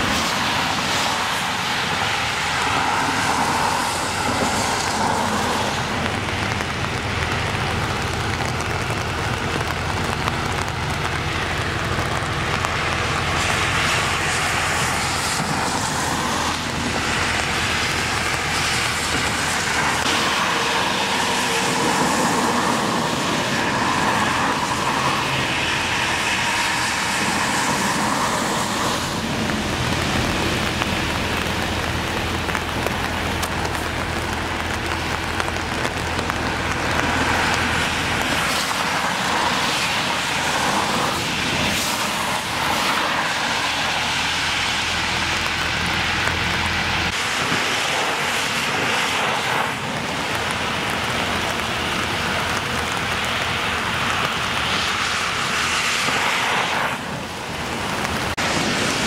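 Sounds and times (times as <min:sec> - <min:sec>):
tyres hissing on wet road: 0:00.0 - 0:59.0.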